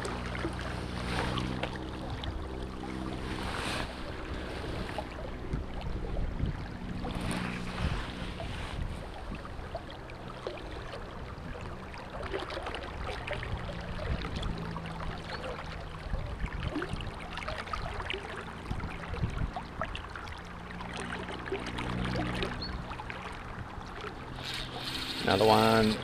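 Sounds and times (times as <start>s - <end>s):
low steady hum: 0.0s - 26.0s
river current rushing and lapping: 0.0s - 26.0s.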